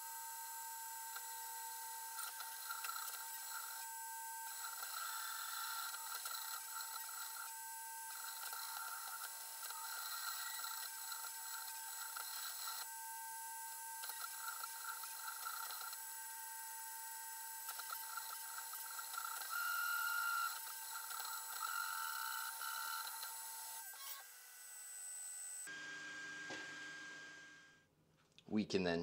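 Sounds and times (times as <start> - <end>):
printer motors whining: 0.8 - 13.0, 14.0 - 27.2.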